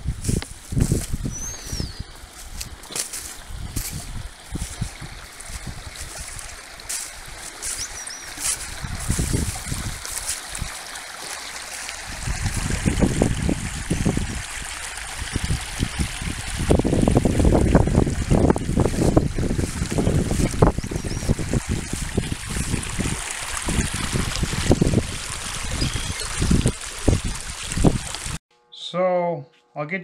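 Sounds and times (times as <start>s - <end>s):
wind buffeting microphone: 0.0s - 10.8s, 12.0s - 28.4s
creek trickling over rocks: 0.0s - 28.4s.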